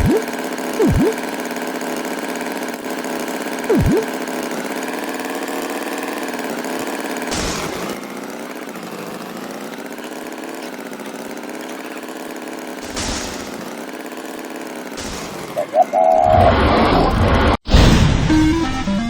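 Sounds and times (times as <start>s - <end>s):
engine running: 0.0s - 16.2s.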